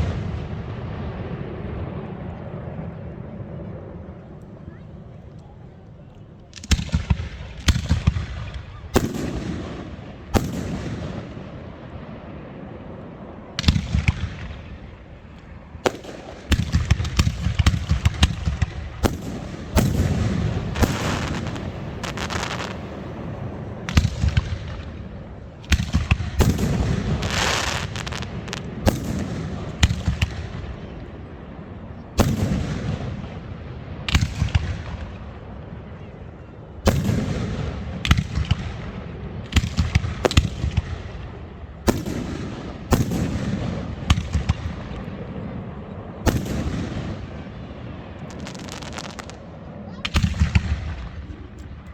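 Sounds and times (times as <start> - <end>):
fireworks exploding with echo: 0.0 - 51.9.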